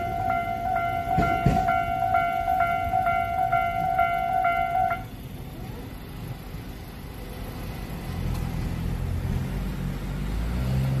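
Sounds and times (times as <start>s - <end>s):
cars driving over crossing: 0.0s - 11.0s.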